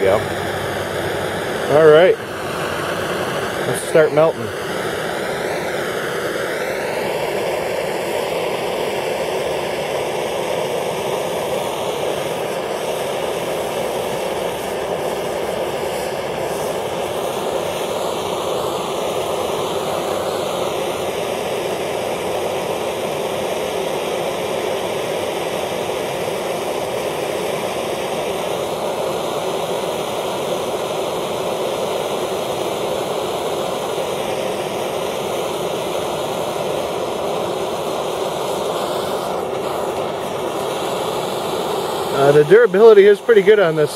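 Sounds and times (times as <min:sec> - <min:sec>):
gas torch hissing: 0:00.0 - 0:43.9.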